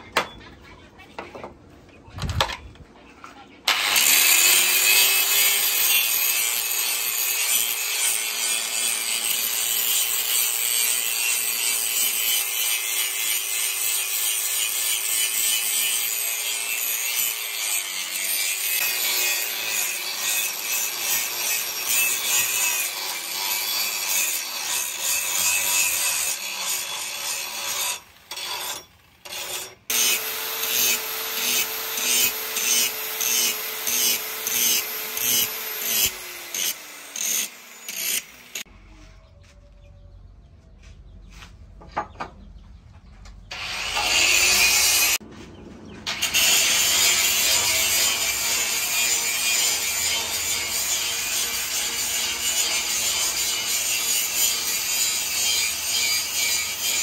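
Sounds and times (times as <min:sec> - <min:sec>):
angle grinder grinding steel: 0:03.7 - 0:38.7, 0:43.5 - 0:45.2, 0:46.0 - 0:57.0.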